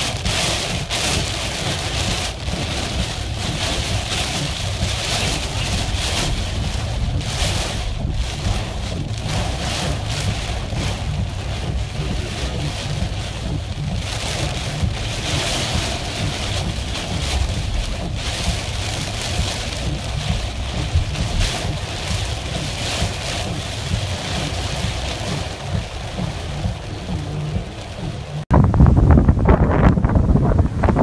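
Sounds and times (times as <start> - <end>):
car rumbling on wet road: 0.0 - 31.0
gusting wind: 0.0 - 31.0
heavy rain on car: 0.0 - 31.0.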